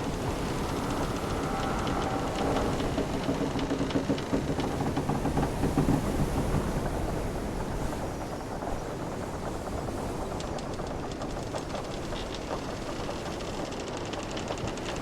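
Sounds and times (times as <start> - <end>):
wooden ship timbers creaking: 0.0 - 7.3, 9.4 - 15.0.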